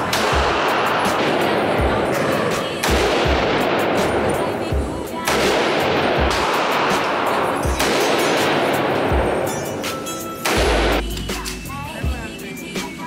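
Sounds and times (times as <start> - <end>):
rifle shots: 0.0 - 11.0
music playing: 0.0 - 13.0.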